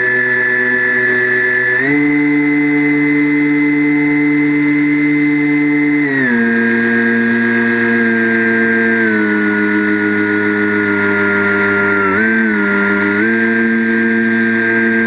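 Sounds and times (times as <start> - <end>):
model airplane motor whine: 0.0 - 15.0.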